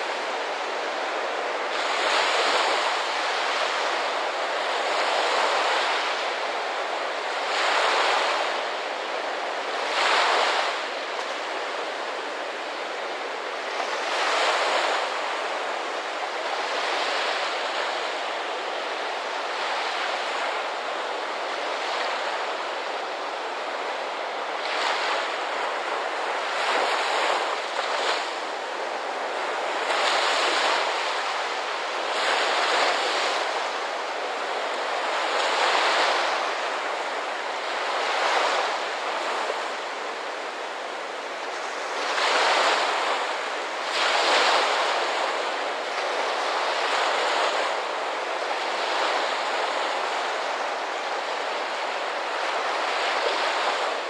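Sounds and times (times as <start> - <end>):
ocean surf: 0.0 - 54.0
waves breaking: 0.0 - 54.0.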